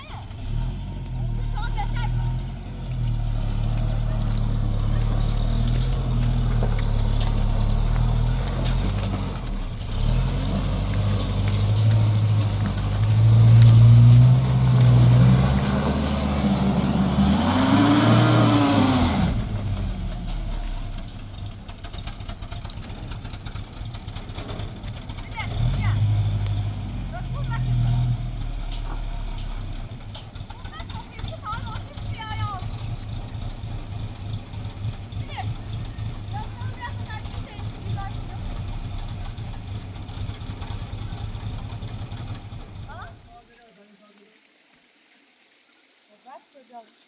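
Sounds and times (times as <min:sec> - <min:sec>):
car engine revving: 0:00.0 - 0:43.2.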